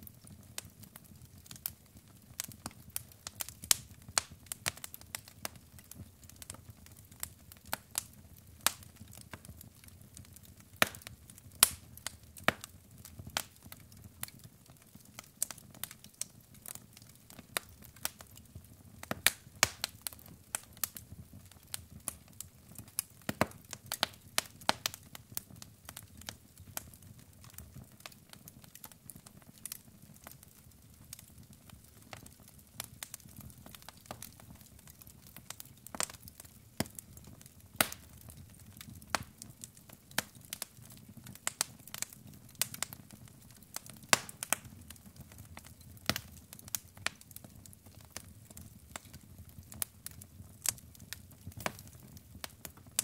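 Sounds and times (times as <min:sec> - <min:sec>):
burning logs popping: 0:00.0 - 0:53.0
wood fire crackling: 0:00.0 - 0:53.0.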